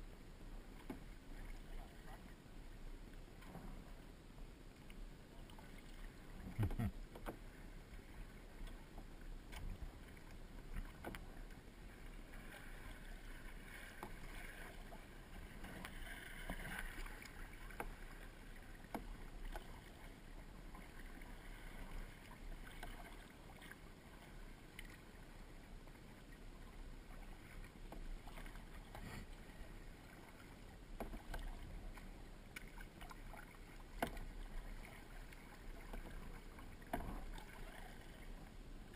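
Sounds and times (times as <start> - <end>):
paddle strokes splashing in water: 0.6 - 2.4, 4.8 - 38.9.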